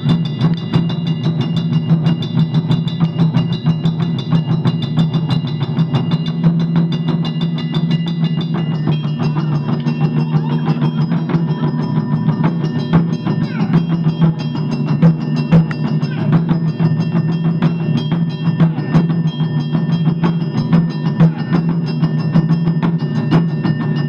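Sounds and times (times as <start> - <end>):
ensemble drumming on barrel drums: 0.0 - 24.0.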